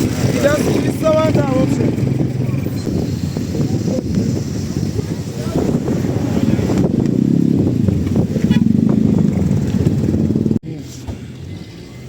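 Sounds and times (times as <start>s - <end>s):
motorcycle engine running: 0.0s - 10.6s
street crowd noise: 0.0s - 12.0s.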